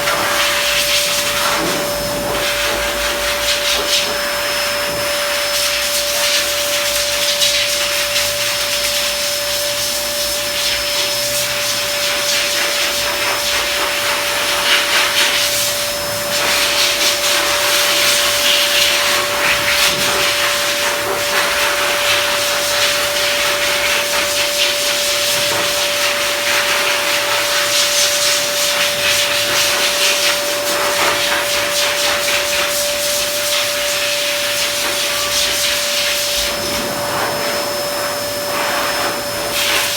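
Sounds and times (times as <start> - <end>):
blow dryer whining and rushing air: 0.0 - 39.9.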